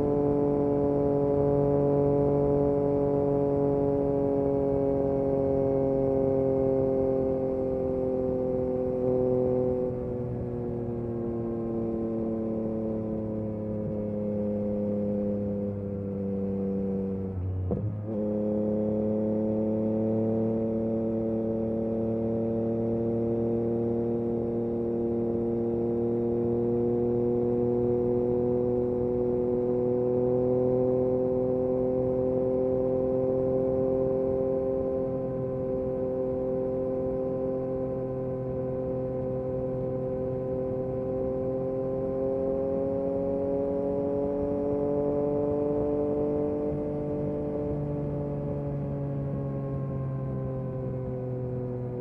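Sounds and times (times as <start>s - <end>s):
motorcycle engine at speed: 0.0s - 52.0s.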